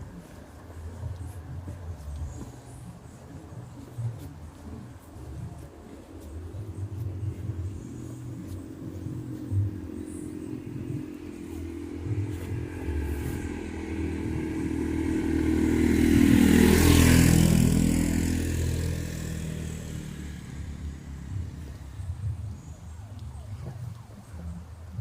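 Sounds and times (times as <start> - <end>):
vehicle engine passing by: 0.0 - 23.9.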